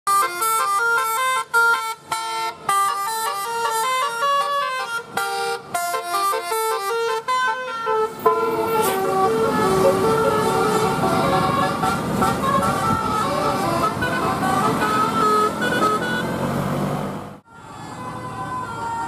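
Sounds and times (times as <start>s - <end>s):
multi-tone bus horn tune: 0.1s - 16.5s.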